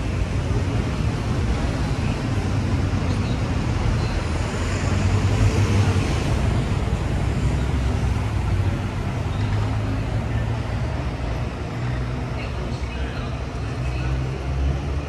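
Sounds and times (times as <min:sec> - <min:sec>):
bus engine rumbling: 0:00.0 - 0:15.0
street traffic: 0:00.0 - 0:15.0.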